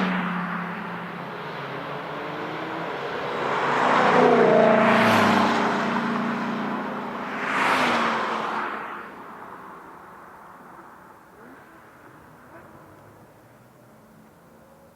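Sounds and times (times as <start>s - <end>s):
sports car engine passing at speed: 0.0s - 14.9s.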